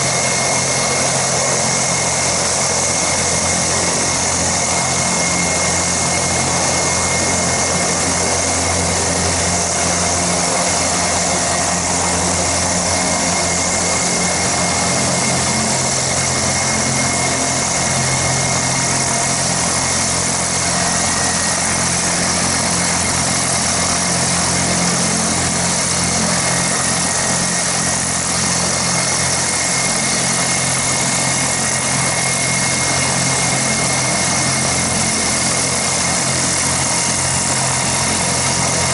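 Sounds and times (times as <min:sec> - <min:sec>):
helicopter turbine whine: 0:00.0 - 0:38.9.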